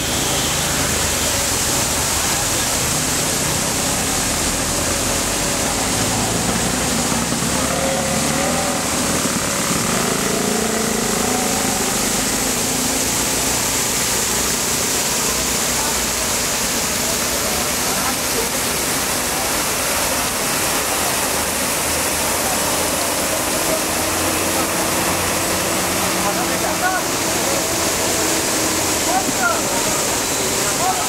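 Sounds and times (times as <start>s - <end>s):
fountain water jets splashing: 0.0s - 31.0s.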